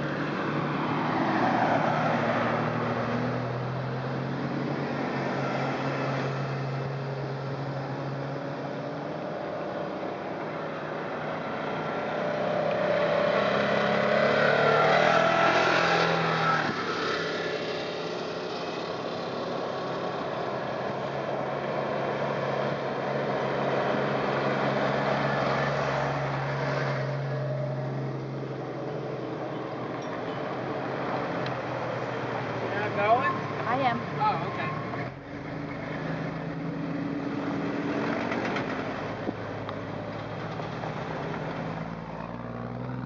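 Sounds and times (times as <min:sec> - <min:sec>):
engine hum: 0:00.0 - 0:43.0
off-road vehicles driving past: 0:00.0 - 0:43.0.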